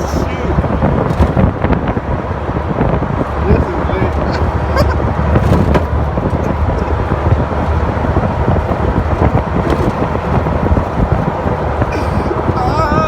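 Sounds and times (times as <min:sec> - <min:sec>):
rushing wind: 0:00.0 - 0:13.0
truck engine and road rumble: 0:00.0 - 0:13.0.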